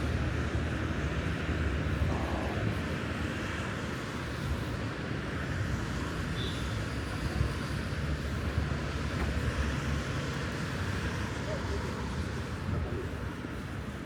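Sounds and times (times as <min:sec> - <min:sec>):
vehicle traffic rumble: 0:00.0 - 0:14.0.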